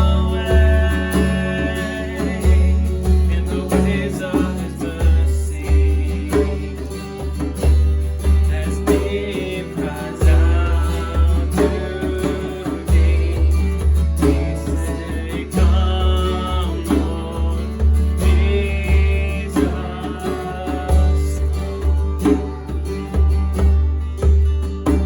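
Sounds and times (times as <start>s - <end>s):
guitar: 0.0s - 25.0s
steady bass beat: 0.0s - 25.0s
worship band music: 0.0s - 25.0s.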